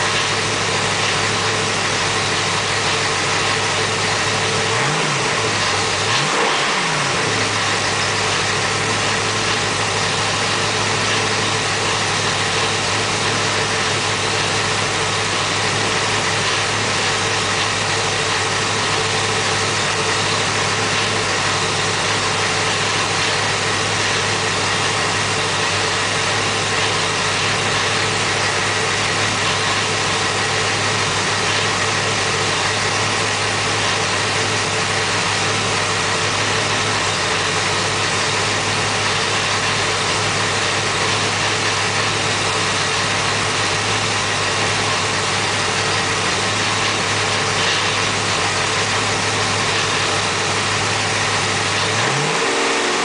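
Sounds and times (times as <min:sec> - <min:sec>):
car engine revving then idling: 0:00.0 - 0:53.0.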